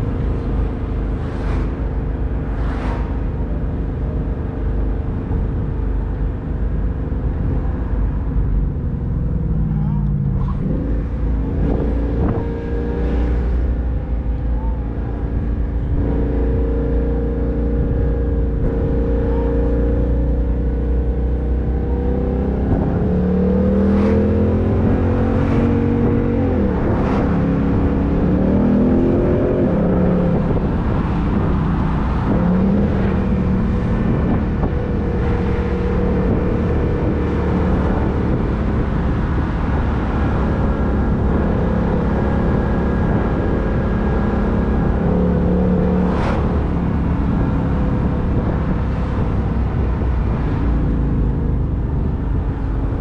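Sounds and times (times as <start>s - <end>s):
car engine revving: 0.0s - 5.3s, 7.4s - 52.7s
road noise: 0.0s - 53.0s
wind noise: 0.0s - 53.0s.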